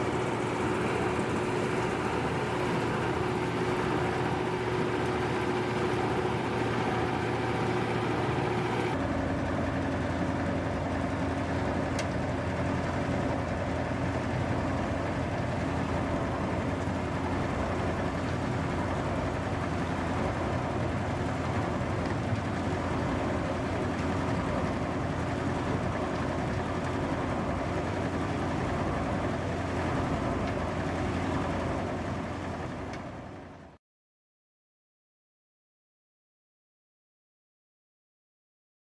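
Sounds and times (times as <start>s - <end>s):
industrial machinery hum and rumble: 0.0s - 33.8s.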